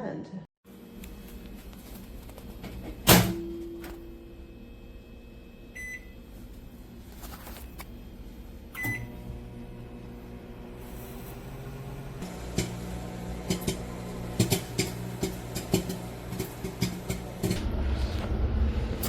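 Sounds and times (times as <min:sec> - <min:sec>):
microwave oven humming: 0:00.7 - 0:19.0.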